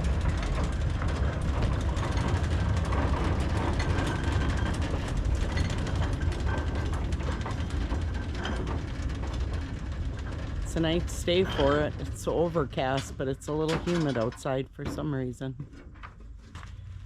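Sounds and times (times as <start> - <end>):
cart rolling on rails: 0.0 - 17.0
clicks and rattles: 0.0 - 17.0.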